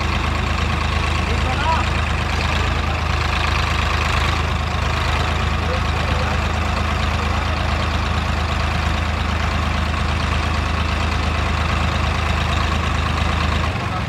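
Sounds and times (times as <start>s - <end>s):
tractor diesel engines humming: 0.0s - 14.0s.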